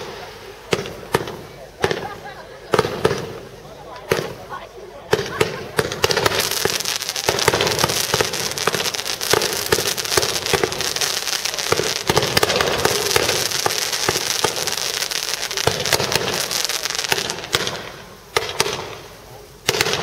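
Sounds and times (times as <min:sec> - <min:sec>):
fireworks hissing and crackling: 0:00.0 - 0:20.0.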